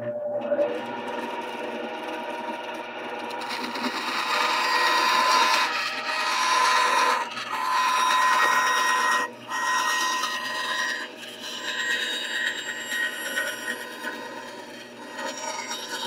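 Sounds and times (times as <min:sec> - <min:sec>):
band saw whine: 0:00.0 - 0:16.0
saw cutting wood: 0:00.5 - 0:16.0.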